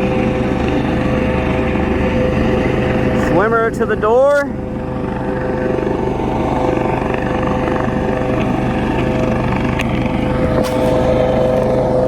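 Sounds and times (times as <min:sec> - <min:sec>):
helicopter engine hum: 0:00.0 - 0:12.0
helicopter rotor beating: 0:00.0 - 0:12.0.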